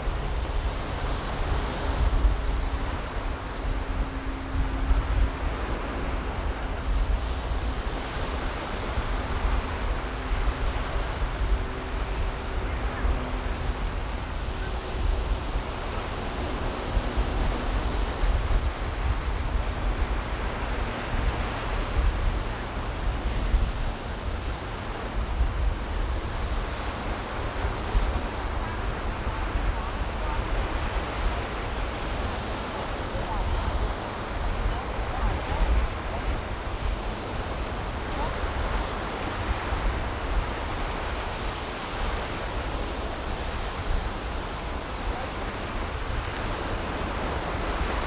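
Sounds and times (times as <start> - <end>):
ocean surf on a beach: 0.0 - 48.0
wind buffeting microphone: 0.0 - 48.0.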